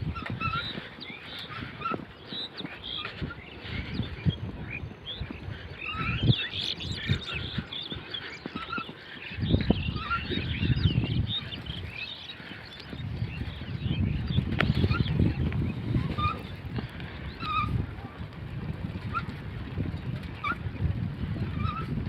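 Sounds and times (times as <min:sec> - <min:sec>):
small birds chirping: 0:00.0 - 0:19.4.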